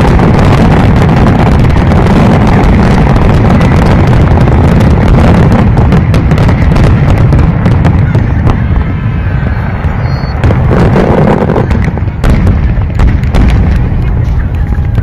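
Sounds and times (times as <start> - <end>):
fireworks bursting: 0.0 - 15.0
sharp firework cracks: 0.0 - 15.0.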